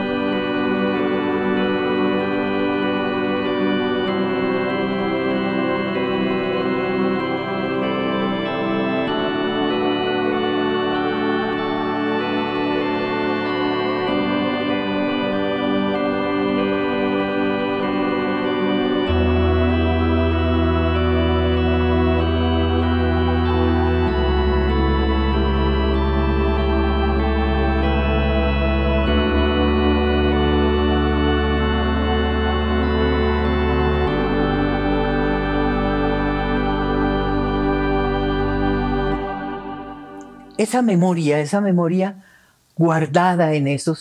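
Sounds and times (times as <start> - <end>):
slow keyboard chords: 0.0 - 41.6.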